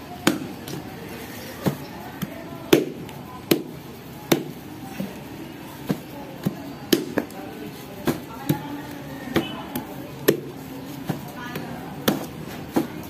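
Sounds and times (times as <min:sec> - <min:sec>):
knife chopping coconut husk: 0:00.2 - 0:00.9, 0:01.6 - 0:05.2, 0:05.8 - 0:13.0.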